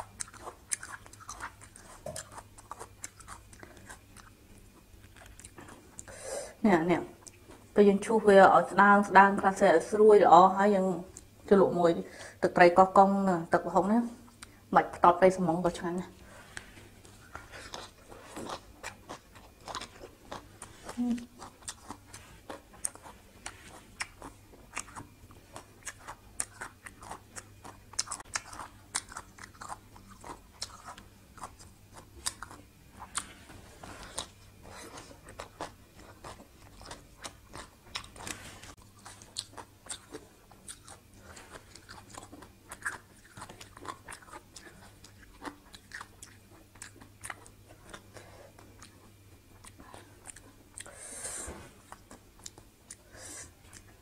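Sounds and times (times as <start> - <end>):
chewing crunches and mouth clicks: 0.0 - 6.1, 7.2 - 7.7, 11.1 - 11.4, 16.1 - 51.0, 51.8 - 54.0.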